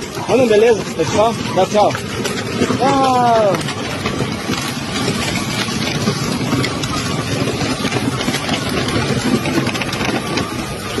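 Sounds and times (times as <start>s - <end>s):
plastic wheels crunching stones: 0.0s - 11.0s
toy tractor rolling over gravel: 0.0s - 11.0s.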